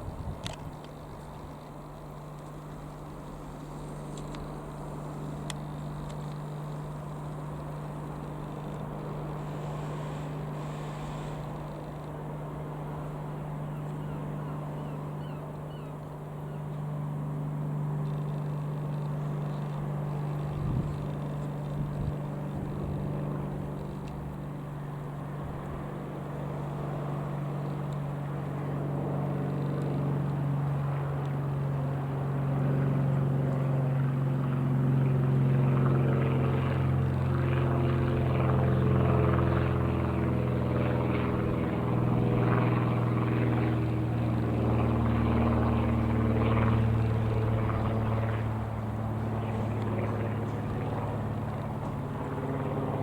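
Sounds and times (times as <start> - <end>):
propeller aircraft engine droning: 0.0 - 53.0.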